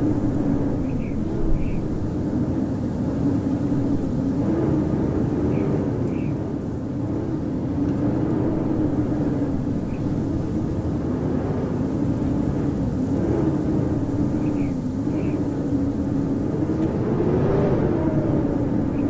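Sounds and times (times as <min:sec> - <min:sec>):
howling blizzard wind: 0:00.0 - 0:19.0.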